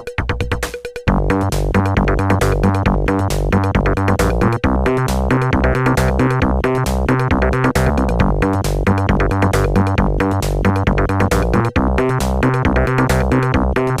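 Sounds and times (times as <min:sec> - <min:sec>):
electronic synthesizer music with beat: 0:00.0 - 0:14.0.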